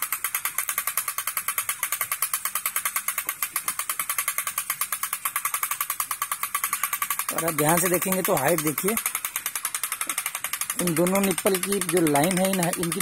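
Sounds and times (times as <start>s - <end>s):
winch ratchet clicking: 0.0s - 13.0s.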